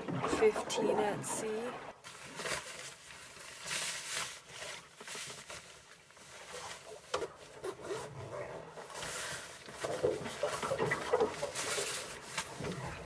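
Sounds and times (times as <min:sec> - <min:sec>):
waterproof jacket rustling: 0:02.0 - 0:13.0.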